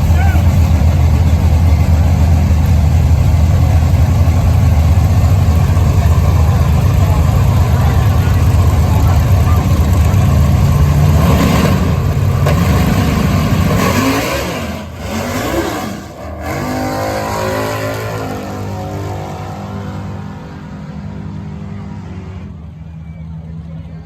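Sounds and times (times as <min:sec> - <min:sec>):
drag car engine revving: 0:00.0 - 0:23.0.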